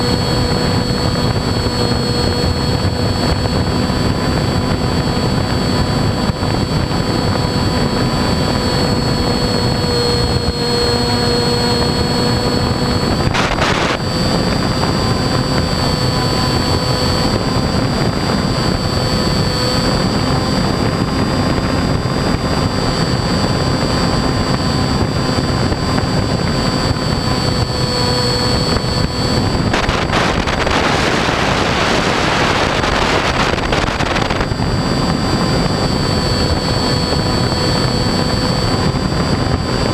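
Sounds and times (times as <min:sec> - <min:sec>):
model airplane motor whine: 0:00.0 - 0:39.9
wind rushing: 0:00.0 - 0:39.9.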